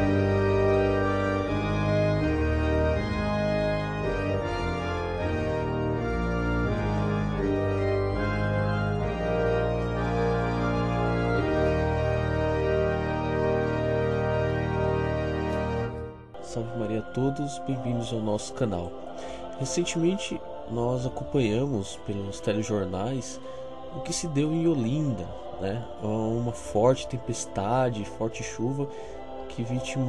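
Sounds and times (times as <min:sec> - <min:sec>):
organ playing slow chords: 0:00.0 - 0:30.0.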